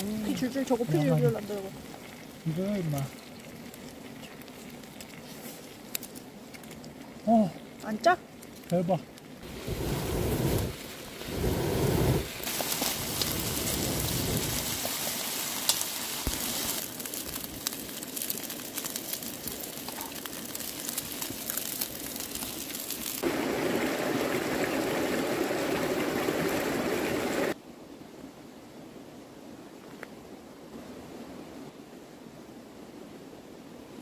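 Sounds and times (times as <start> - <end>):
food sizzling over campfire: 0.0 - 27.6.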